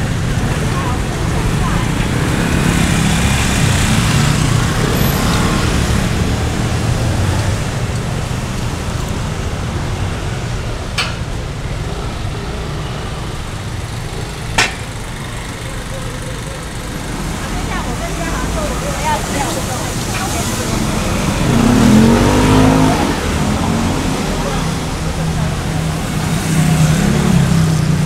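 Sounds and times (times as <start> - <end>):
passing vehicles: 0.0 - 28.0.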